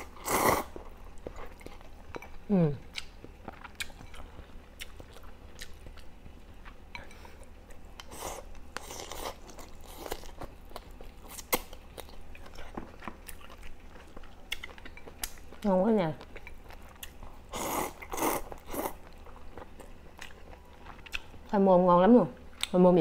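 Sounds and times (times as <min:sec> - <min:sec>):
person chewing food: 0:00.0 - 0:21.5.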